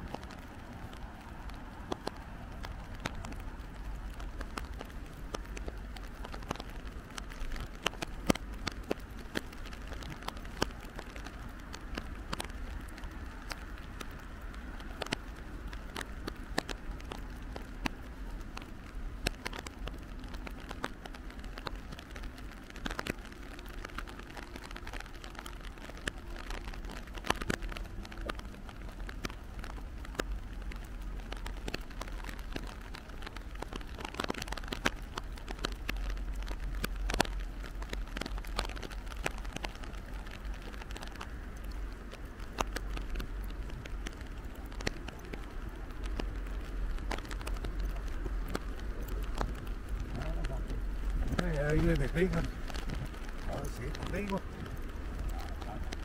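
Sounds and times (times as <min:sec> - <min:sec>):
reversed rain pattering: 0:00.0 - 0:56.0.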